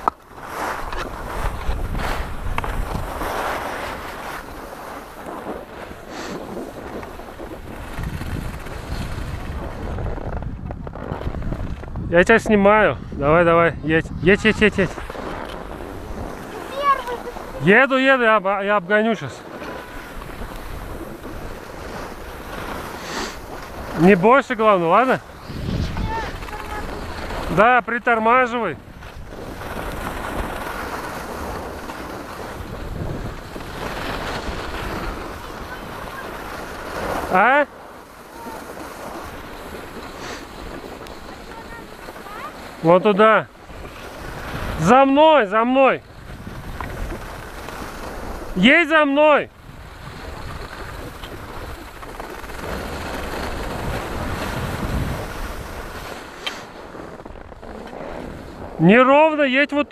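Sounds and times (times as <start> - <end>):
skis sliding over packed snow: 0.0 - 59.9
wind rushing over microphone: 0.0 - 59.9.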